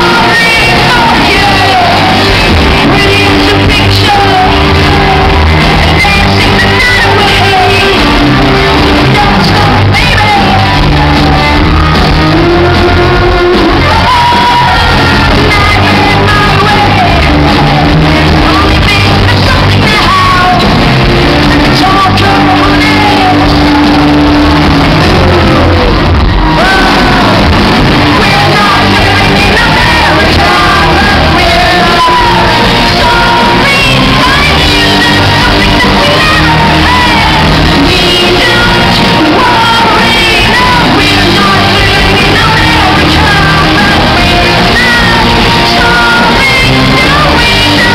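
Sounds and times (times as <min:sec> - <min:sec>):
drums: 0:00.0 - 0:47.9
electric guitar: 0:00.0 - 0:47.9
woman singing: 0:00.0 - 0:47.9.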